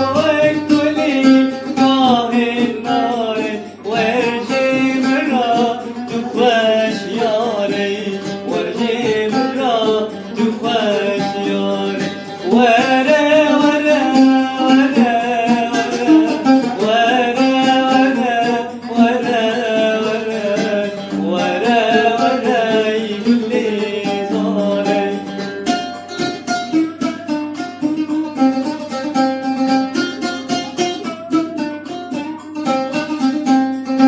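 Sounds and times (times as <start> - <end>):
plucked string accompaniment: 0.0 - 34.0.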